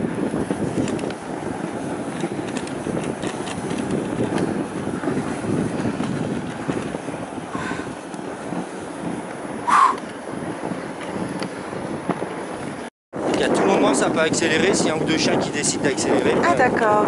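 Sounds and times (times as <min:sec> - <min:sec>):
sled runners scraping snow: 0:00.0 - 0:17.0
wind buffeting microphone: 0:00.0 - 0:17.0.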